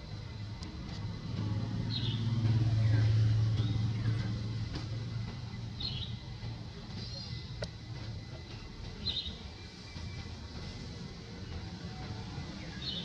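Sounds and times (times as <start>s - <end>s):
passing vehicle engine hum: 0.0s - 13.0s.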